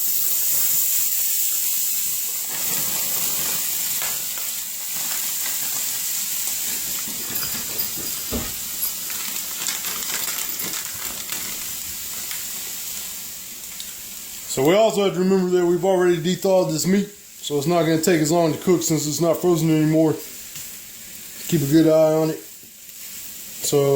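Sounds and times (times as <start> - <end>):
meat sizzling in a skillet: 0.0 - 23.9.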